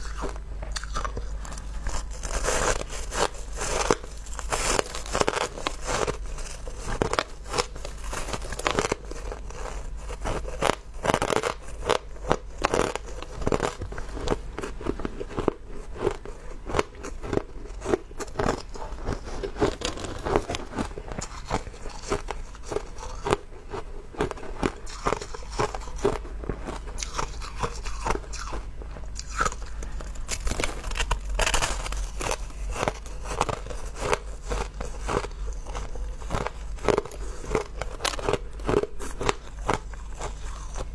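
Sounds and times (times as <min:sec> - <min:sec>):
ice crunching in mouth: 0:00.0 - 0:40.9.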